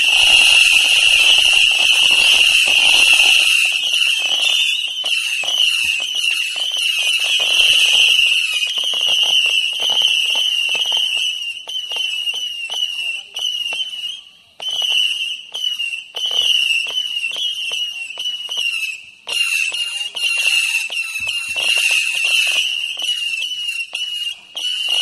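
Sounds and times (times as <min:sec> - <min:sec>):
shrill firework whistles: 0:00.0 - 0:25.0.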